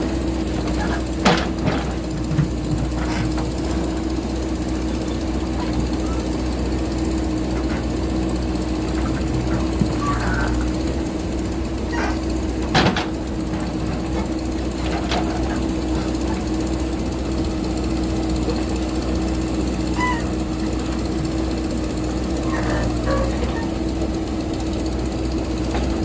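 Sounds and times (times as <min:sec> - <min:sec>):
diesel engine running under load: 0:00.0 - 0:26.0.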